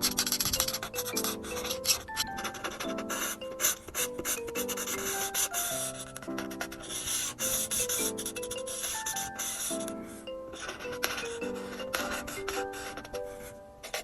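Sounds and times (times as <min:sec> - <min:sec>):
simple background melody: 0:00.0 - 0:14.0.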